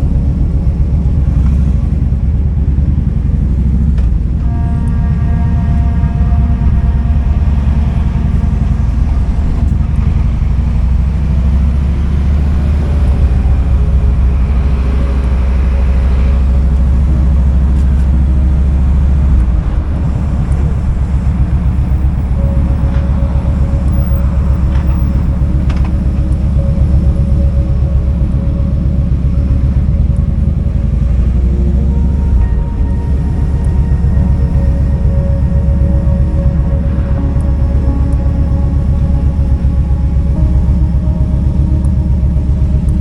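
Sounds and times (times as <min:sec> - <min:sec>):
motorcycle engine pulsing: 0:00.0 - 0:43.0.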